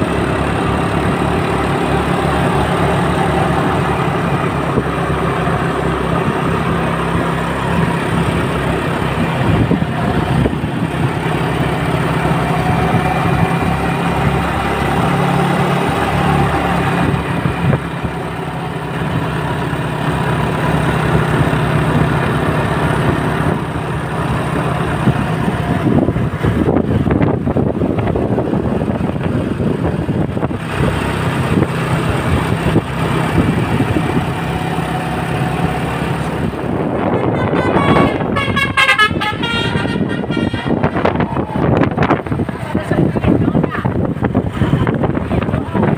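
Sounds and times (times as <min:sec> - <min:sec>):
bus diesel engine idling: 0:00.0 - 0:45.9
road noise: 0:00.0 - 0:45.9.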